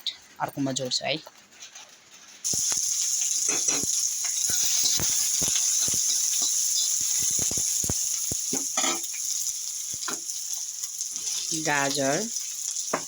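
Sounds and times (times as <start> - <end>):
food sizzling in hot oil: 1.5 - 13.0.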